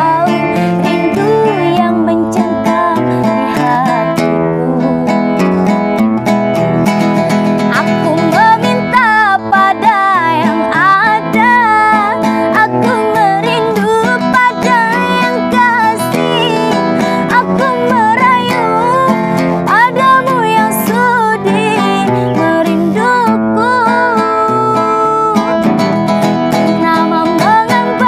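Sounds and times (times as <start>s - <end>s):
woman singing pop ballad: 0.0s - 5.5s, 7.6s - 25.8s, 26.5s - 28.0s
strummed nylon-string guitar: 0.0s - 28.0s.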